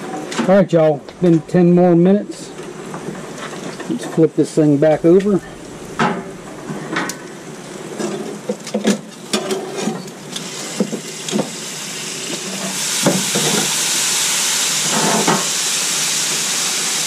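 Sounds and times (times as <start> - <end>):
chicken sizzling on grill: 0.1 - 17.0.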